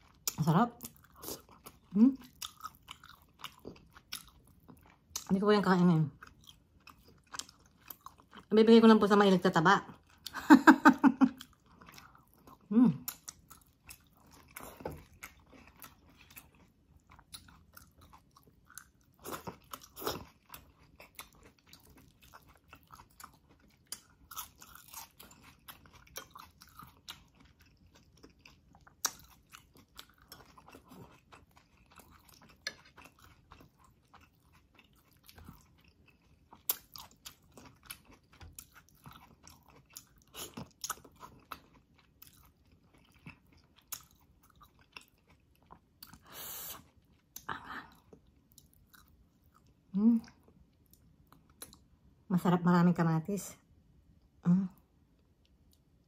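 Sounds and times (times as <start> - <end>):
person chewing food: 0.0 - 5.3, 6.1 - 8.5, 9.9 - 52.2, 54.0 - 56.0.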